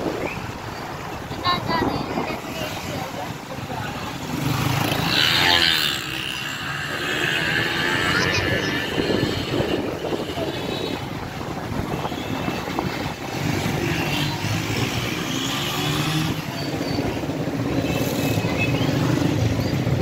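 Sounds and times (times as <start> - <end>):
motorcycle and rickshaw engines: 0.0 - 20.0.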